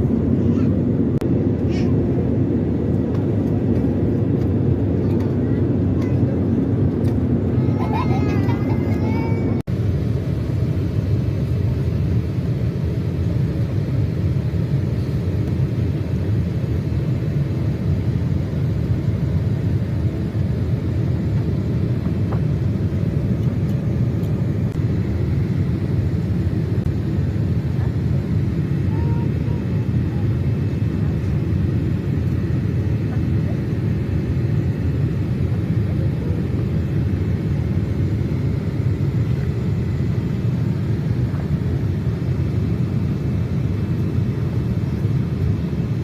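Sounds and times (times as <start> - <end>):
airliner cabin rumble: 0.0 - 46.0.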